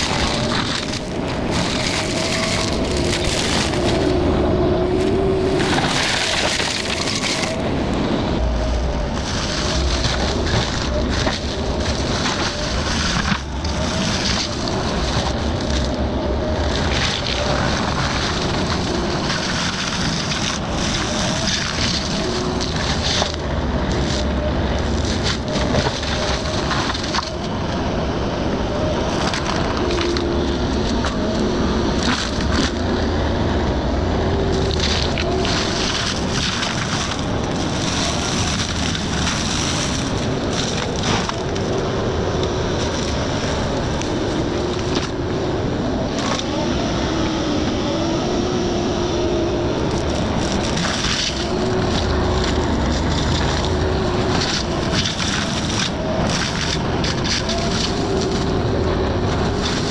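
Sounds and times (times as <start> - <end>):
excavator engine running: 0.0 - 59.9
mulcher grinding wood: 0.0 - 59.9.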